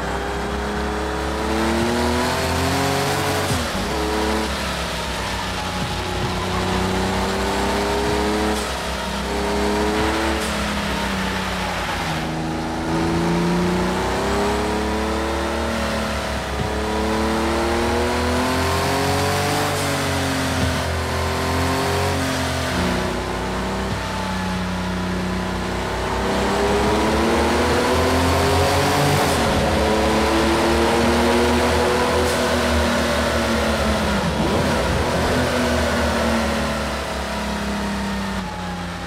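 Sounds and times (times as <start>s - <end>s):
sports car engine revving: 0.0s - 39.0s.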